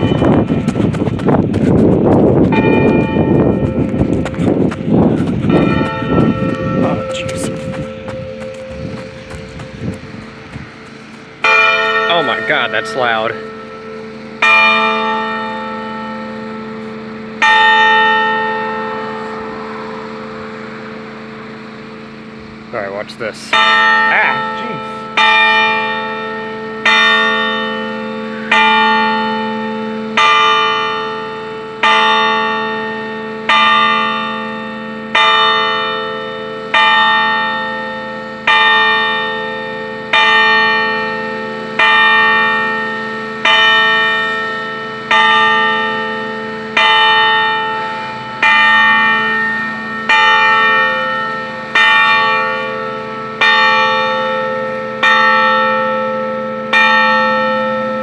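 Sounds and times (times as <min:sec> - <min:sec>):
church bell tolling: 0:00.0 - 0:01.2, 0:02.4 - 0:04.5, 0:05.4 - 0:10.6, 0:11.4 - 0:22.7, 0:23.3 - 0:58.0.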